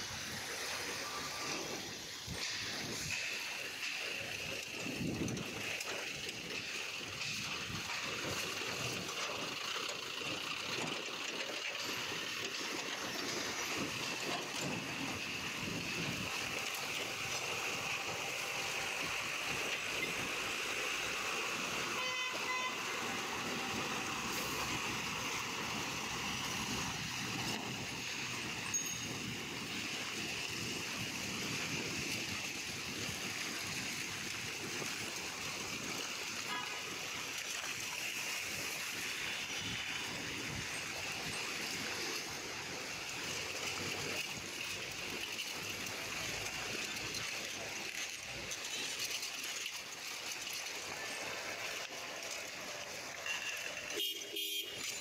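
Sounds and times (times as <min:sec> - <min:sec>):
street traffic: 0:00.0 - 0:55.0
wheels splashing through water: 0:00.0 - 0:55.0.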